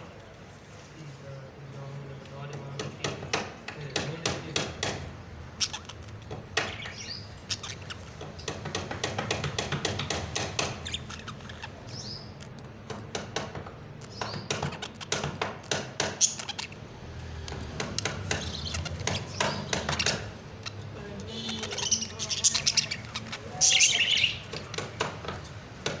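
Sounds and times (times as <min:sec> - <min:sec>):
parrots chirping and squeaking: 0:02.3 - 0:26.0.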